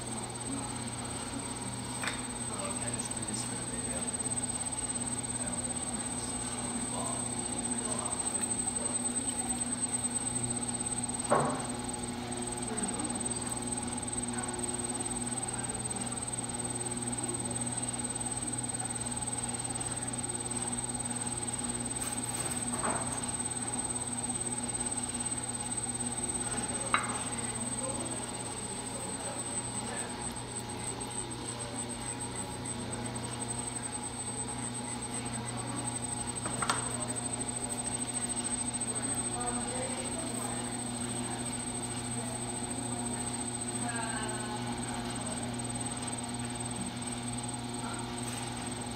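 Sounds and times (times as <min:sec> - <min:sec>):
potter's wheels humming: 0:00.0 - 0:48.9.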